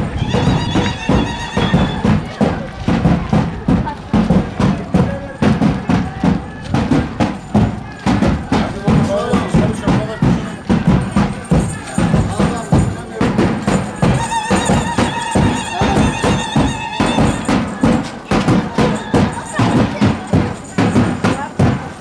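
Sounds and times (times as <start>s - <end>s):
drum beat: 0.0s - 22.0s
folk dance music: 0.0s - 22.0s.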